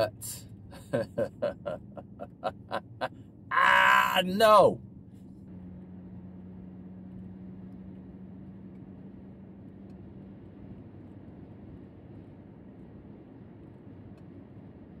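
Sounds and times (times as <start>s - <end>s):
car cabin road and engine noise: 0.0s - 15.0s
steady hum: 0.0s - 15.0s.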